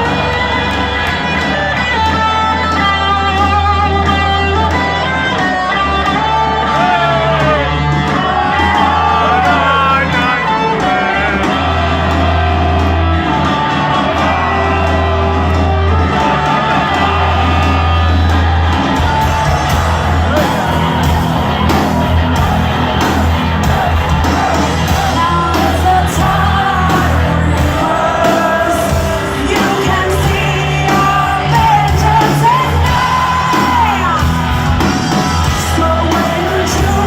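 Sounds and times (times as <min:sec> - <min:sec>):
bass notes: 0:00.0 - 0:37.0
electric guitar melody: 0:00.0 - 0:37.0.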